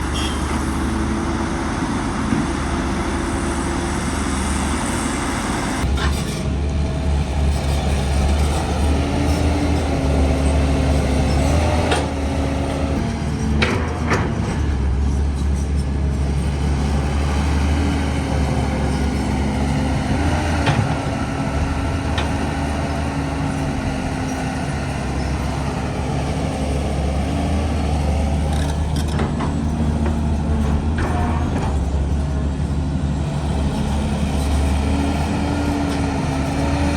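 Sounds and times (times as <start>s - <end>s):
diesel earthmoving machinery engine: 0.0s - 36.9s.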